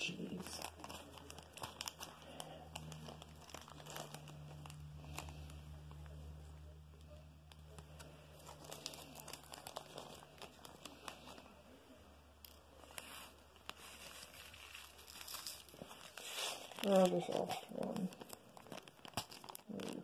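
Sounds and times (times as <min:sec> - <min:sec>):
small clicks and plastic crinkling: 0:00.4 - 0:11.5, 0:12.4 - 0:20.0.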